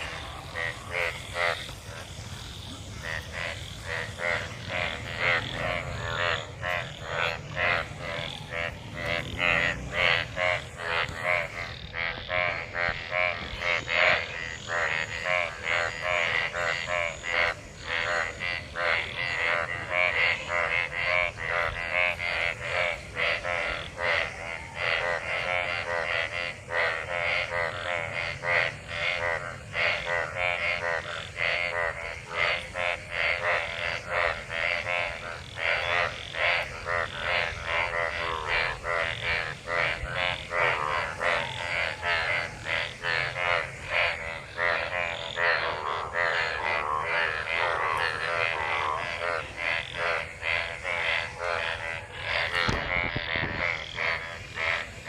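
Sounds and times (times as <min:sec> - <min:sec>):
chorus of frogs croaking: 0:00.0 - 0:55.0.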